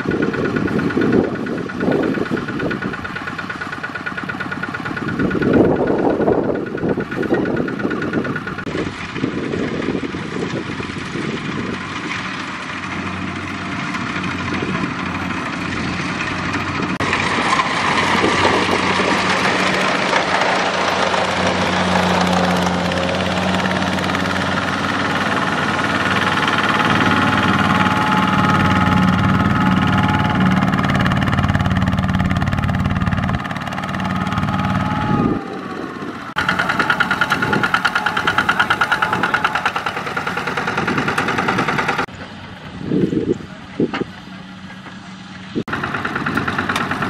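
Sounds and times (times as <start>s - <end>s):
diesel tractor engine chugging: 0.0s - 47.0s.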